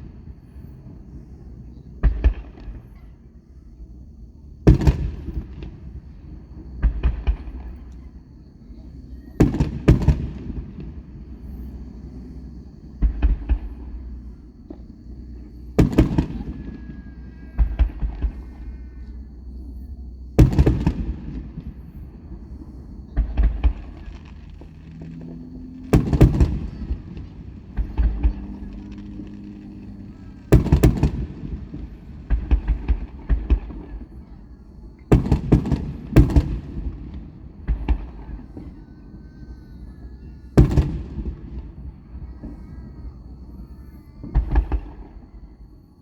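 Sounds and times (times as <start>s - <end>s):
fireworks bursting: 0.0s - 45.7s
fireworks crackle: 4.6s - 43.3s, 44.2s - 45.5s.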